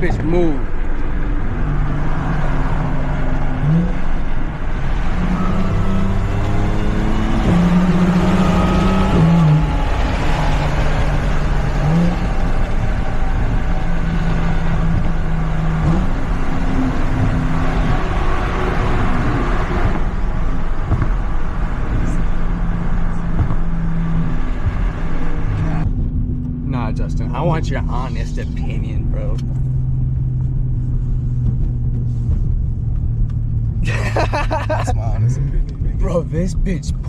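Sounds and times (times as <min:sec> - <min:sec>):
car engine accelerating through gears: 0:00.0 - 0:37.0
road and wind noise: 0:00.0 - 0:37.0.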